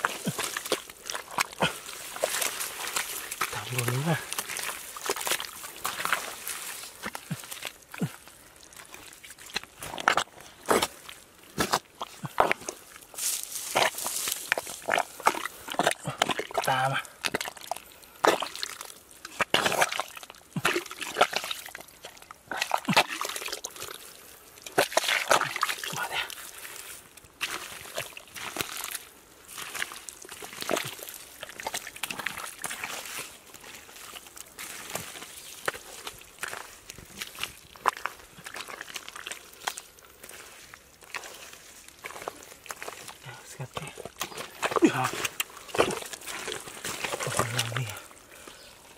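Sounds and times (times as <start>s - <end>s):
hands squelching through wet mud: 0.0s - 48.9s.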